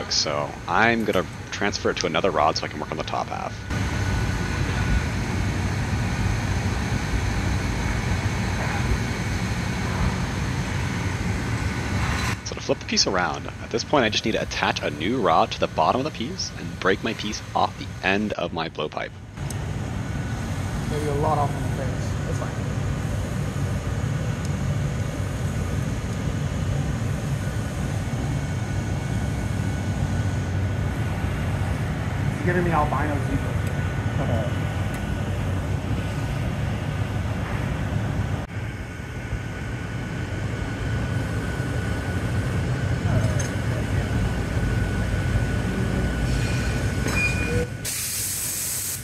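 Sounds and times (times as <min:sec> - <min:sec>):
floor fans running: 0:00.0 - 0:49.0
gas burner roaring: 0:00.0 - 0:49.0.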